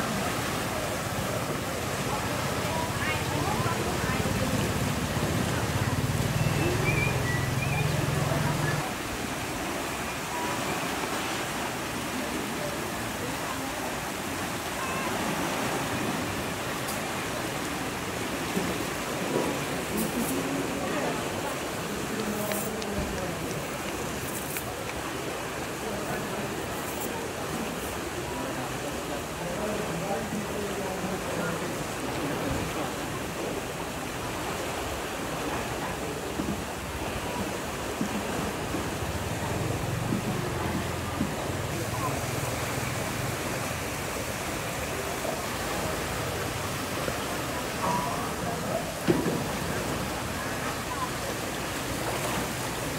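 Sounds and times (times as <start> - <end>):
water rushing through sluice gates: 0.0 - 52.9.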